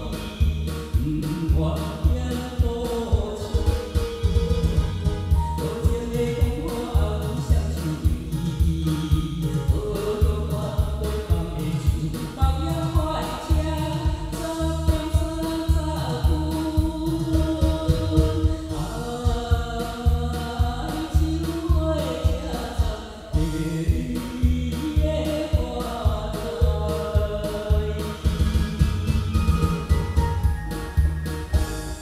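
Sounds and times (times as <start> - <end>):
beat with deep bass pulses: 0.0 - 32.0
melodic singing: 0.0 - 32.0.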